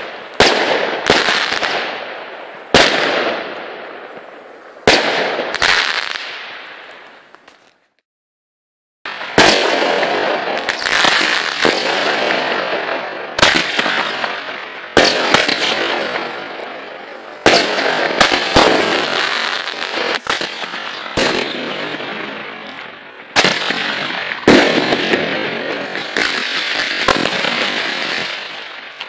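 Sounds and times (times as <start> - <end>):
firework bangs with crackling hiss: 0.0 - 7.8, 9.1 - 29.0.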